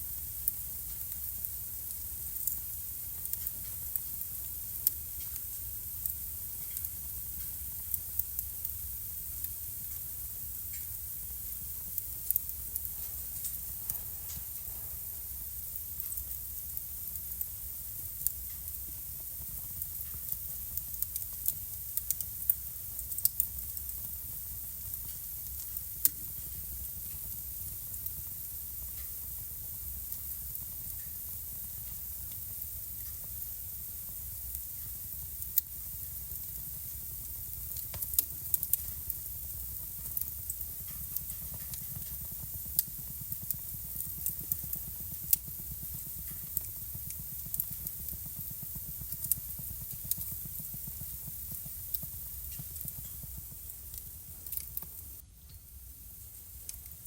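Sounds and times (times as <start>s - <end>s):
soft hiss: 0.0s - 57.0s
wood fire crackling and popping: 0.0s - 57.0s.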